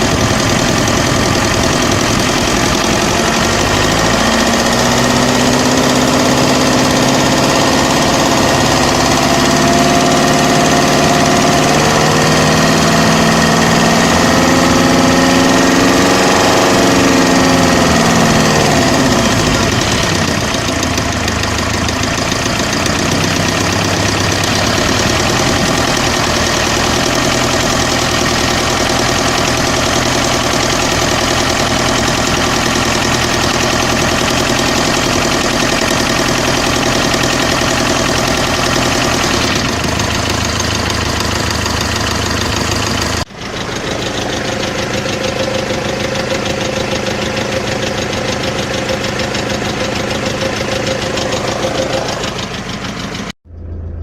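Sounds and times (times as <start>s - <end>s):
diesel engine idling with knock: 0.0s - 54.0s.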